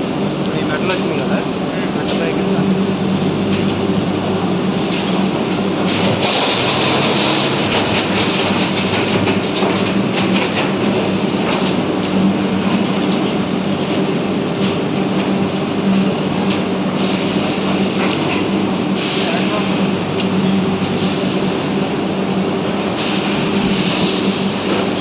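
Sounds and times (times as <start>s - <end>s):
electric arc furnace roaring: 0.0s - 25.0s.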